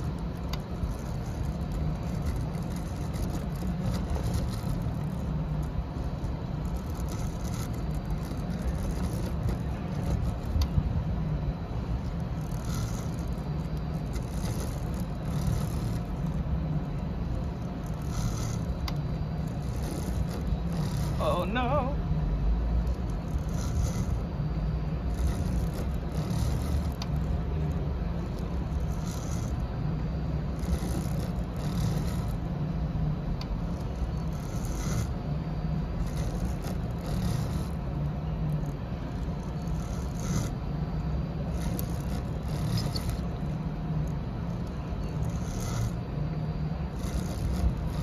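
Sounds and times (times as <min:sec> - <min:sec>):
machine whirring: 0:00.0 - 0:48.0
printer motor humming: 0:00.0 - 0:48.0.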